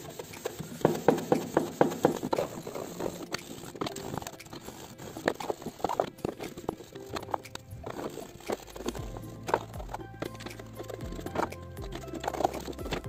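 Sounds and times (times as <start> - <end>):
wet cloth scrubbing plastic: 0.0 - 13.0.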